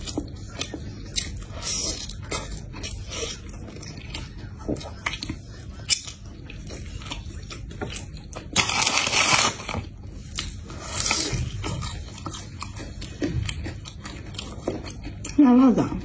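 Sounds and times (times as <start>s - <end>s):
person chewing crispy food: 0.0s - 15.8s.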